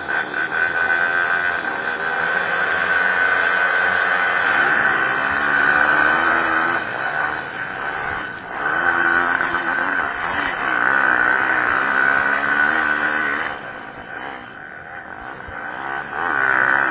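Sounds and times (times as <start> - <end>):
pit bike engines revving: 0.0 - 16.9.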